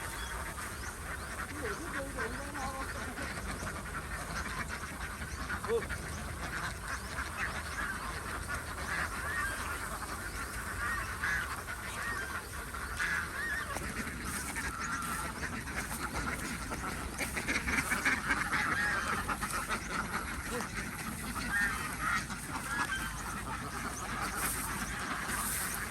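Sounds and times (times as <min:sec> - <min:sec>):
waterfowl honking and quacking: 0:00.0 - 0:25.9.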